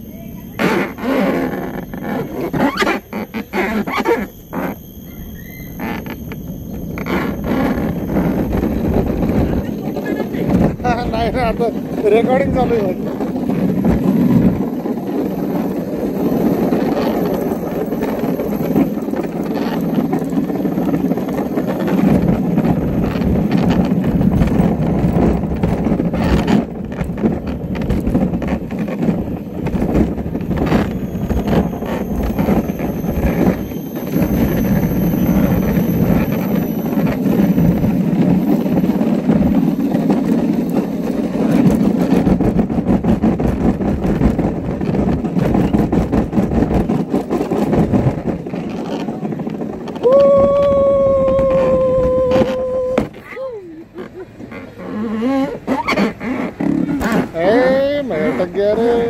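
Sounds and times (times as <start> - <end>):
cart wheels rumbling on asphalt: 0.0 - 59.0.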